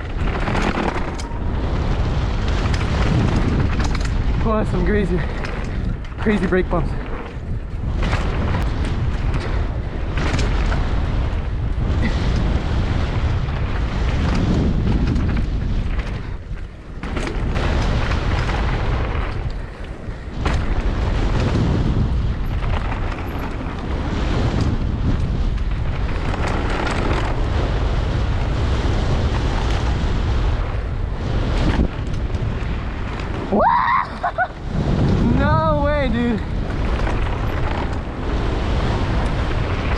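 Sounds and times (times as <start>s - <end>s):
bike clattering over bumps: 0.0s - 39.9s
tyre noise on dirt: 0.0s - 39.9s
wind rumble on microphone: 0.0s - 39.9s.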